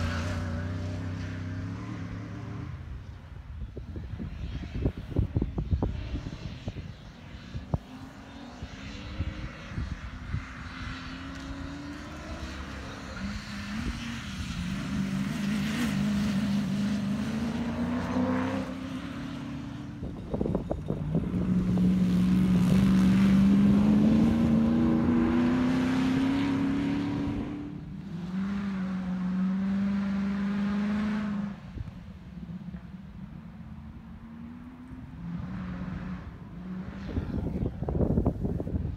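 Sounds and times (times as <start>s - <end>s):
race car engines accelerating: 0.0s - 38.9s.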